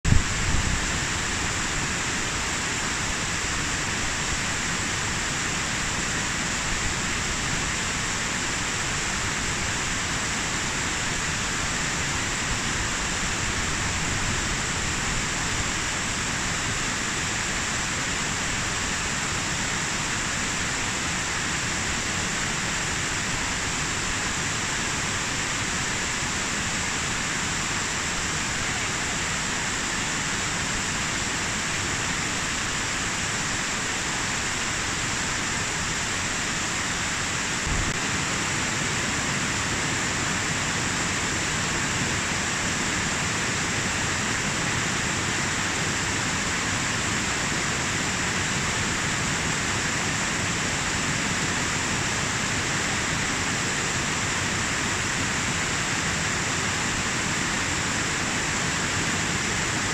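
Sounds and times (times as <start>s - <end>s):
stream rushing over boulders: 0.1s - 59.9s.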